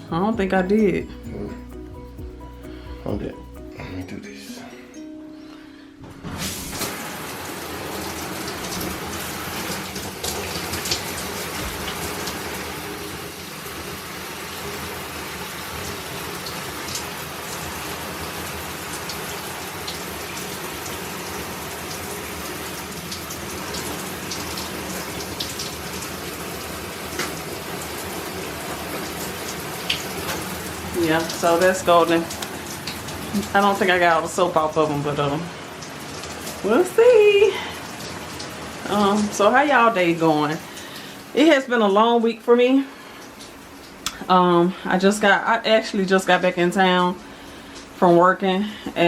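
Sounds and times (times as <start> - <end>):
shower water splashing: 6.2 - 49.0.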